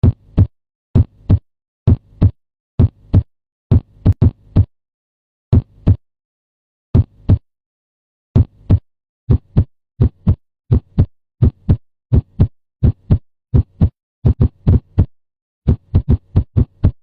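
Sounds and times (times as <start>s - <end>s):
heartbeat thumps: 0.0s - 4.7s, 5.5s - 6.0s, 7.0s - 7.4s, 8.4s - 15.1s, 15.7s - 17.0s.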